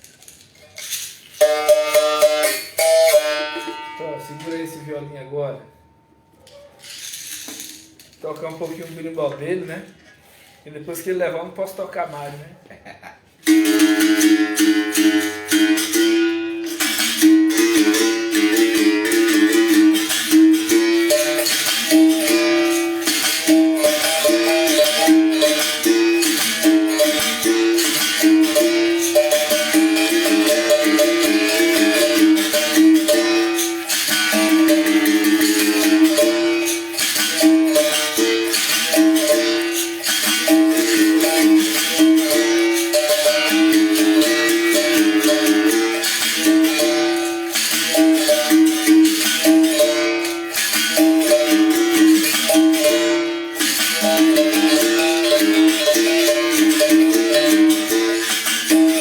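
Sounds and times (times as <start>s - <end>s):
shaker rattling: 0.0s - 3.7s, 6.4s - 9.3s, 13.4s - 59.0s
berimbau playing: 0.8s - 9.7s, 13.4s - 59.0s.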